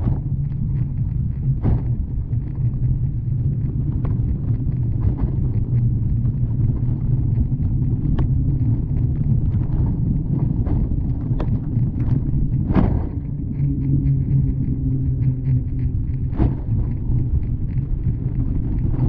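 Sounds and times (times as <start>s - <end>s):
bicycle tyres rumbling on concrete: 0.0s - 19.0s.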